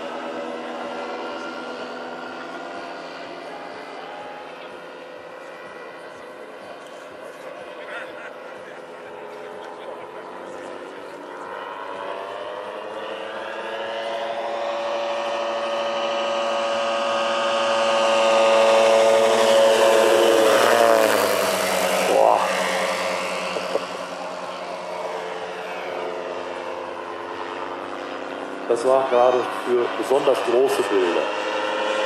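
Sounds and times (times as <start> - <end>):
model plane engine passing: 0.0 - 32.0.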